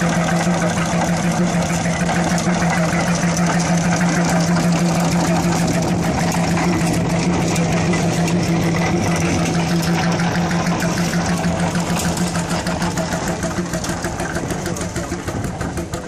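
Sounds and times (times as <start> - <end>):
stationary engine humming: 0.0 - 16.0.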